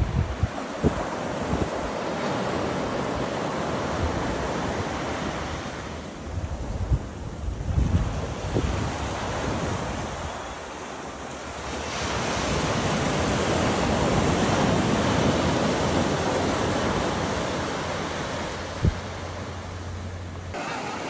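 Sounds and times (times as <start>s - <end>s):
wind buffeting microphone: 0.0s - 10.8s, 11.4s - 19.7s
ocean surf washing in: 0.0s - 21.0s.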